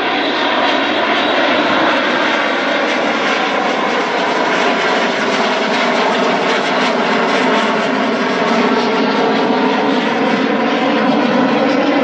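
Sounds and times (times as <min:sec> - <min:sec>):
fighter jet roar: 0:00.0 - 0:12.0.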